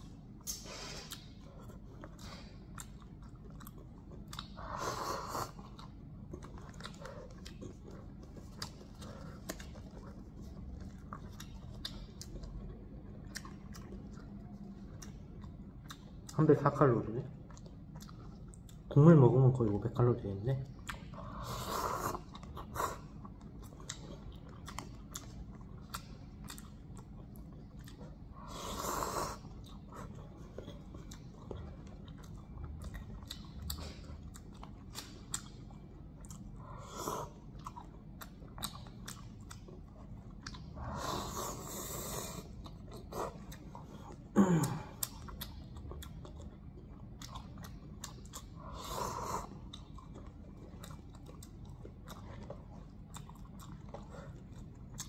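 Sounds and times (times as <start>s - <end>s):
person chewing: 0.0s - 55.0s.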